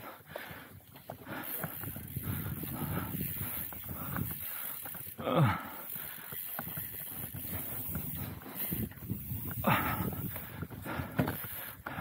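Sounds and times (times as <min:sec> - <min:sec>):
bike chain and drivetrain noise: 0:00.0 - 0:12.0
bike tyres rolling over dirt: 0:00.1 - 0:12.0.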